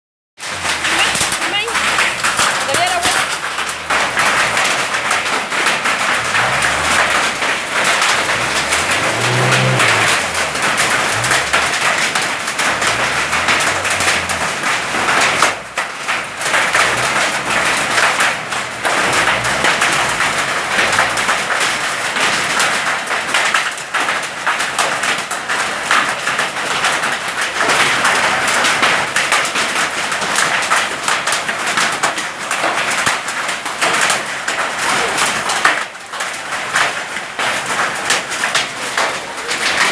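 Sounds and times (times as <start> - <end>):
hailstones striking hard surfaces: 0.4 - 39.9.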